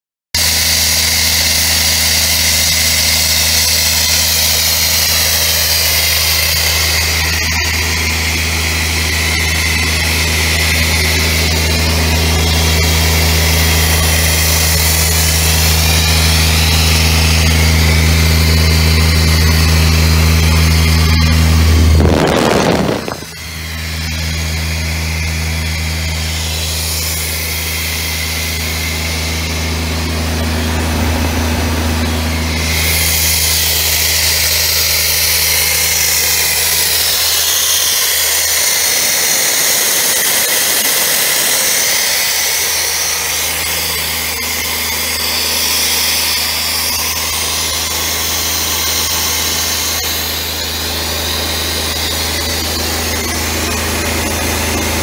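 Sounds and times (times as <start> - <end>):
air compressor diesel engine running: 0.4 - 55.0.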